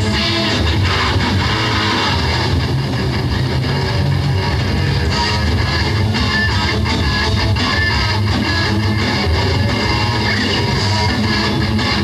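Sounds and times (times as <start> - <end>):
bass guitar: 0.0 - 12.0
drums: 0.0 - 12.0
electric guitar: 0.0 - 12.0.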